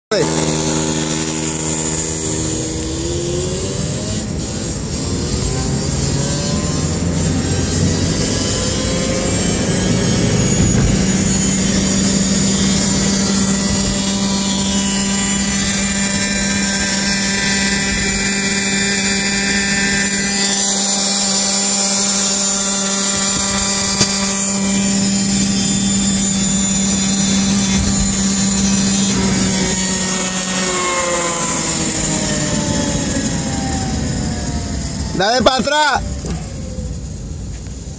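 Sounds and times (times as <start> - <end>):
car road and wind noise: 0.1 - 37.9
small engine at high revs: 0.1 - 37.9.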